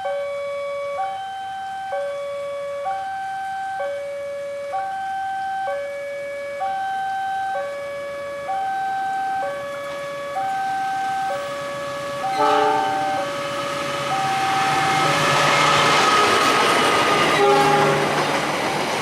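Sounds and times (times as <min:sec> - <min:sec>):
two-tone crossing alarm: 0:00.0 - 0:18.6.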